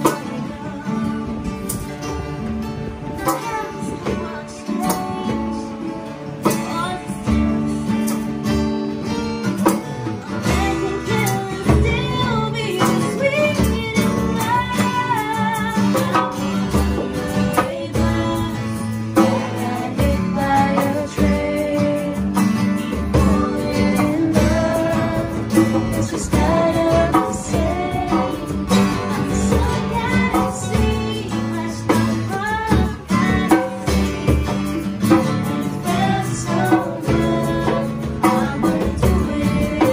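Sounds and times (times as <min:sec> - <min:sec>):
women singing: 0:00.0 - 0:07.8, 0:10.2 - 0:39.9
acoustic guitars strumming: 0:00.0 - 0:39.9
hand drum beat: 0:00.0 - 0:39.9.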